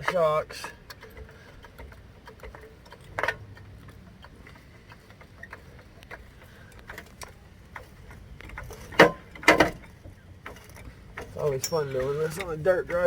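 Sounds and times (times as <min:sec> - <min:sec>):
faint metallic clicks of jack: 0:00.0 - 0:13.0.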